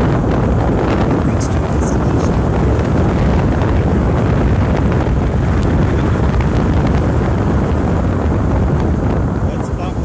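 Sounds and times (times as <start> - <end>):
car engine and road noise: 0.0 - 10.0
wind buffeting the microphone: 0.0 - 10.0.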